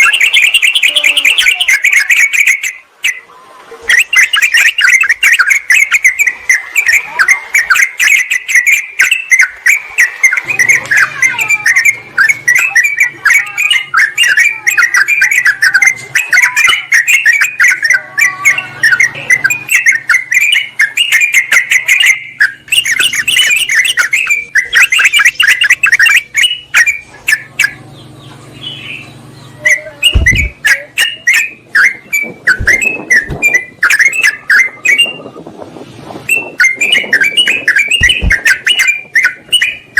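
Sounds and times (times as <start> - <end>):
bulbuls chattering: 0.0 - 39.9.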